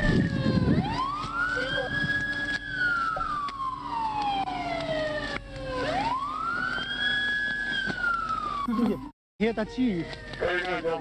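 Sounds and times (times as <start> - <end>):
police siren wailing: 0.0 - 9.1.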